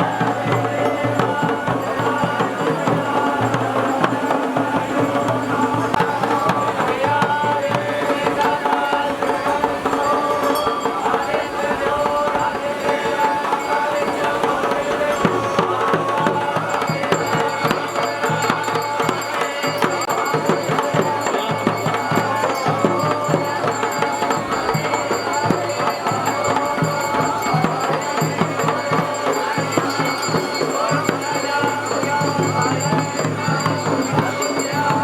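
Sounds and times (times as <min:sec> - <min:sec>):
drums playing a steady rhythm: 0:00.0 - 0:35.0.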